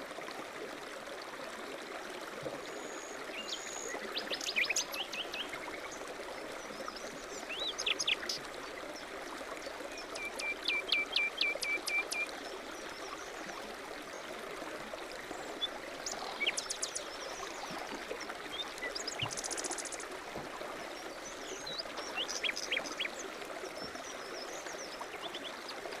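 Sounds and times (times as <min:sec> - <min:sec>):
stream water flowing: 0:00.0 - 0:26.0.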